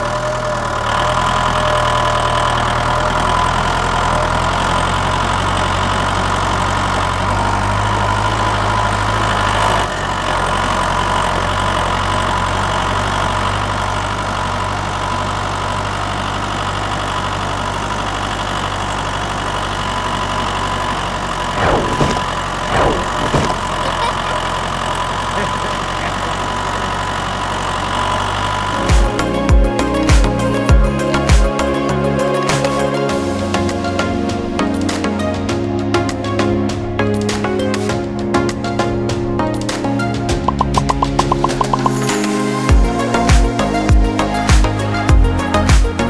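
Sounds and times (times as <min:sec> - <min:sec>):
small engine idling: 0:00.0 - 0:35.5, 0:40.4 - 0:46.0.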